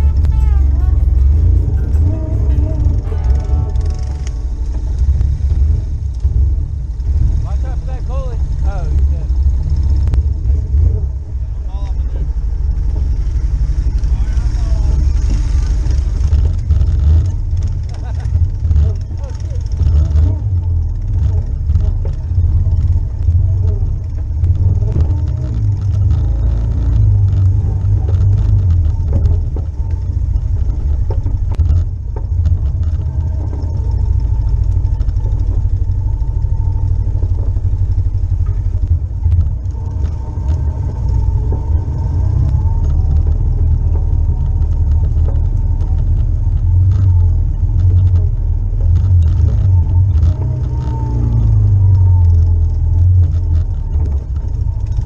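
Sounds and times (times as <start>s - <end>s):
atv engine rumbling: 0.0s - 55.0s
knocks and rattles: 0.0s - 55.0s.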